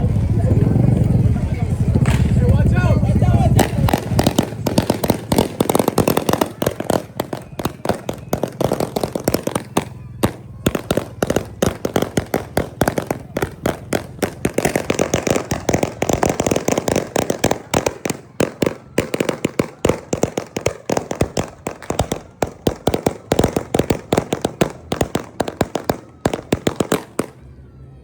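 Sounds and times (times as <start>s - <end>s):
firecrackers banging: 0.0s - 27.6s.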